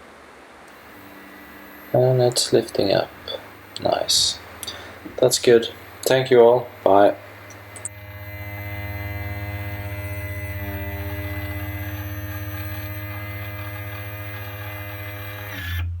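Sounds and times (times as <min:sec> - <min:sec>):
electric motor humming: 0:00.7 - 0:16.0.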